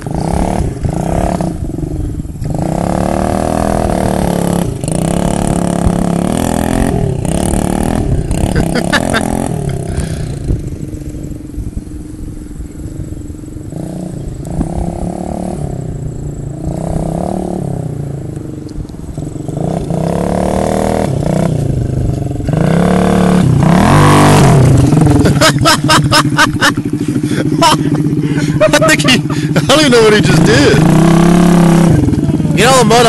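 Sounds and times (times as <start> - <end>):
motorbike engine revving: 0.0 - 33.0.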